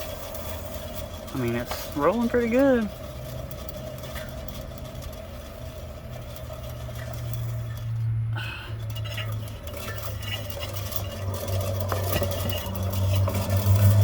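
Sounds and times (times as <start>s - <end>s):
wheel spinning hum: 0.0s - 14.0s.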